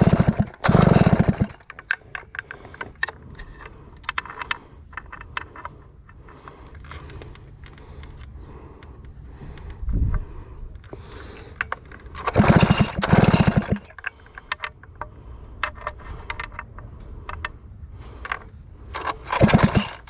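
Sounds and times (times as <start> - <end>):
chainsaw recoil starter pulls: 0.0 - 8.3, 10.8 - 15.0, 15.6 - 20.0.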